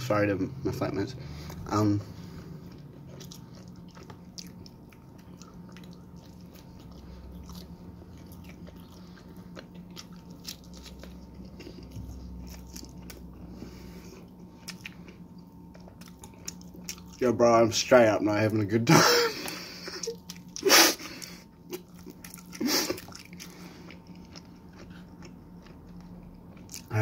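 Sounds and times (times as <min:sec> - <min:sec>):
faint steady hum: 0:00.0 - 0:27.0
person chewing pizza: 0:00.8 - 0:27.0.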